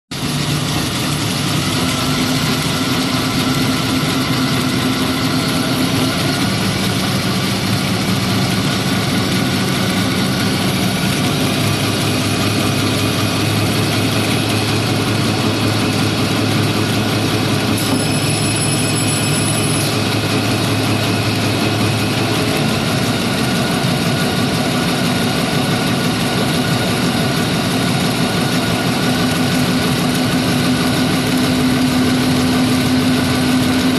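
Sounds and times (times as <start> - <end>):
machinery motor hum: 0.1 - 33.9.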